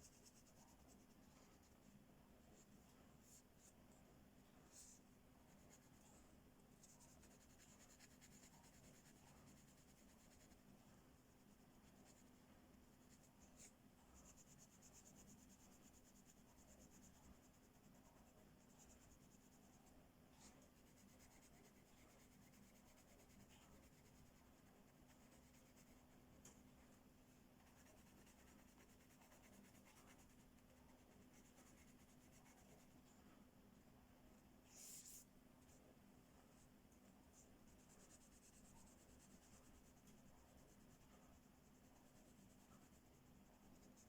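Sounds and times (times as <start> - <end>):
coloring strokes on paper: 0.0 - 1.9, 4.7 - 26.6, 27.6 - 33.0, 34.7 - 35.8, 37.3 - 44.0.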